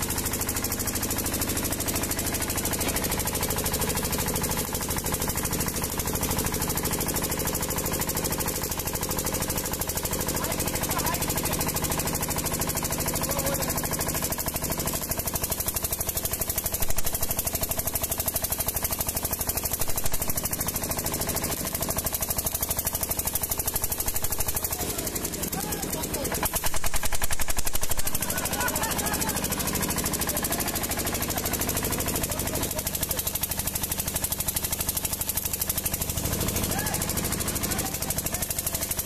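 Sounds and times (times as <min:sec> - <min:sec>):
diesel engine running steadily: 0:00.0 - 0:39.0
welding arc crackling: 0:00.0 - 0:39.0.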